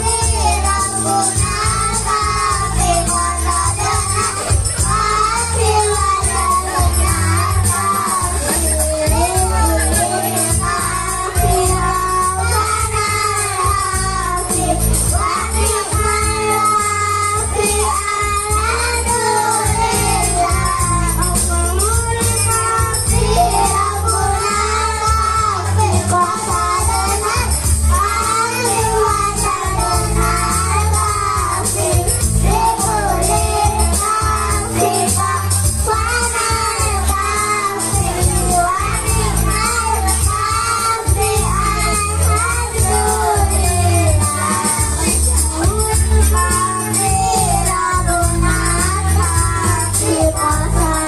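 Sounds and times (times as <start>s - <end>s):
child singing: 0.0s - 51.0s
jingling percussion: 0.0s - 51.0s
live music with heavy bass: 0.0s - 51.0s.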